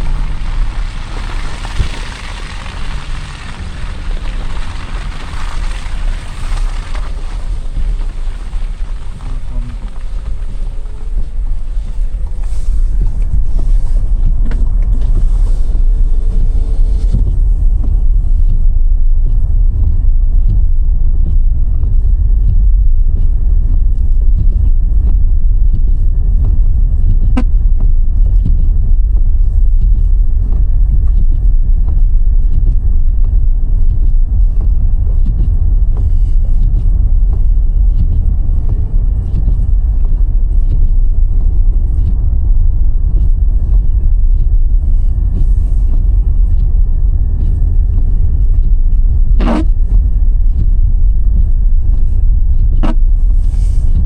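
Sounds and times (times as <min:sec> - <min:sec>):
car interior road rumble: 0:00.0 - 0:54.0.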